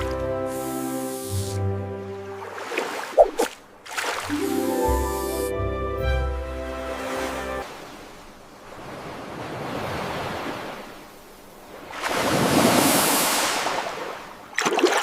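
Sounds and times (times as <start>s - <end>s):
ocean waves rushing: 0.0s - 5.5s, 6.5s - 14.6s.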